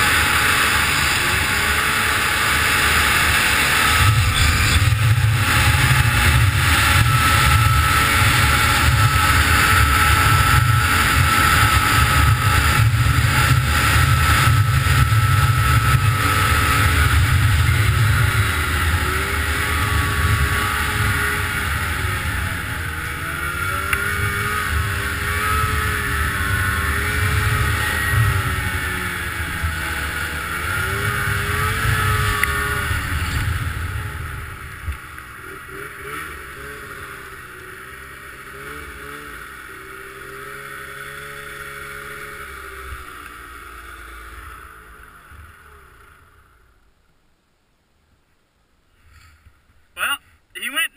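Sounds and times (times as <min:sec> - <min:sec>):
snowmobile engine running: 0:00.0 - 0:46.8.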